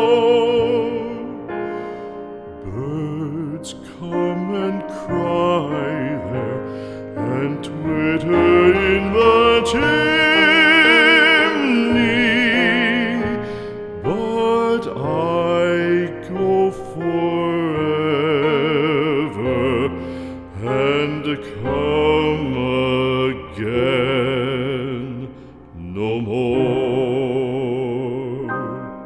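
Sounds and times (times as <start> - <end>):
solo singer with vibrato: 0.0 - 29.0.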